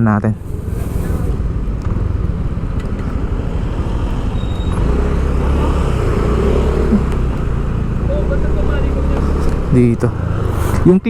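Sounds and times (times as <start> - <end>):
road noise: 0.0 - 11.0
vehicle engine: 0.0 - 11.0.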